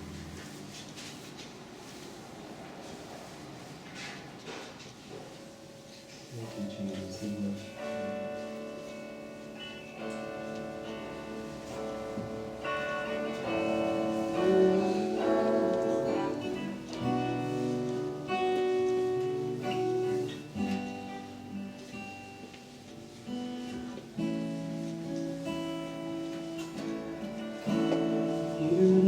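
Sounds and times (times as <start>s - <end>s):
guitar chords: 0.0s - 1.0s, 6.4s - 29.0s.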